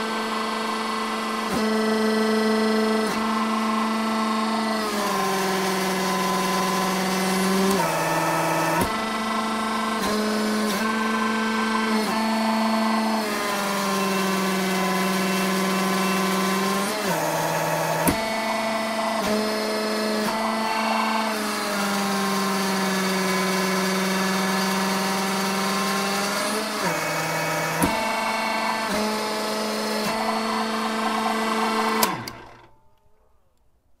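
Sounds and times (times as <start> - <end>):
hydraulic press motor whining: 0.0 - 33.6.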